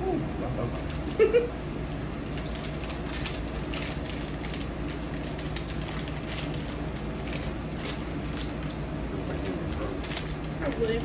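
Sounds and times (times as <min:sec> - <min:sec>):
plastic wrapper crinkling and tearing: 0:00.7 - 0:01.3, 0:02.0 - 0:11.0.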